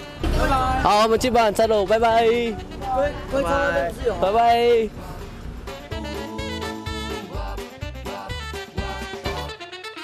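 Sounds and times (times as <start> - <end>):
background music with bass and beat: 0.0 - 10.0.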